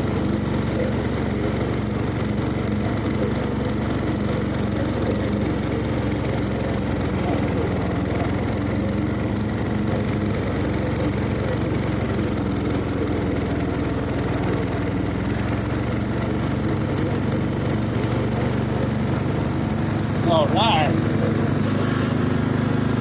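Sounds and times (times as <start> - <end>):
riding lawn mower engine: 0.0 - 23.0.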